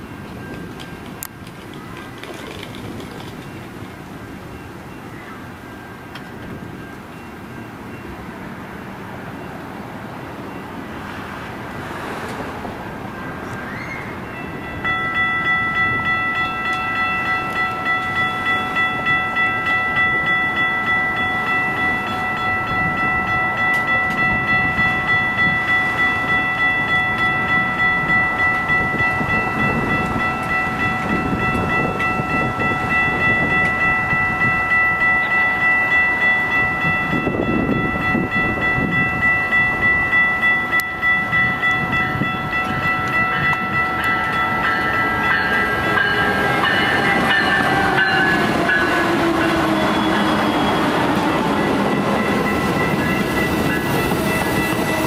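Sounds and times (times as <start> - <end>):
approaching train rumble: 0.0 - 55.0
crossing warning bells ringing: 0.0 - 55.0.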